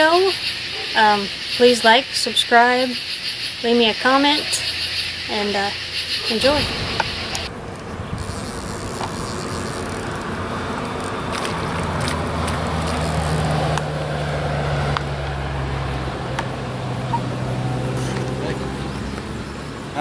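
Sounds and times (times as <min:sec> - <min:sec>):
engine humming: 0:00.0 - 0:20.0
outdoor background: 0:00.0 - 0:20.0.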